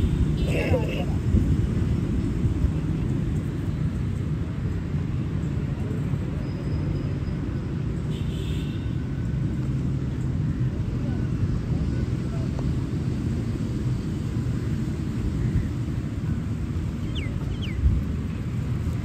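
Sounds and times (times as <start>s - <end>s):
faint engine hum: 0.0s - 19.0s
low rumble of city traffic: 0.0s - 19.0s.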